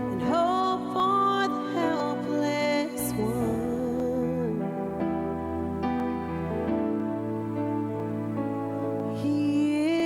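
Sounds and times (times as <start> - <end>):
music with held notes and chord: 0.0 - 10.0.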